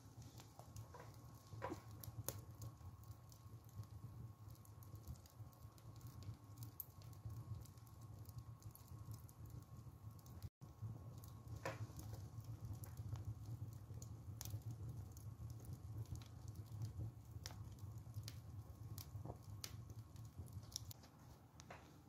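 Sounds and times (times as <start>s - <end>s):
fire crackling and popping: 0.0s - 22.0s
low steady fire rumble: 0.0s - 22.0s.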